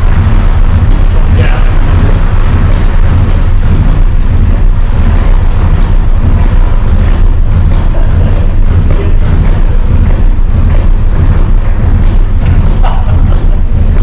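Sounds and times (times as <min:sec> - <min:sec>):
boat engine rumbling: 0:00.0 - 0:14.0.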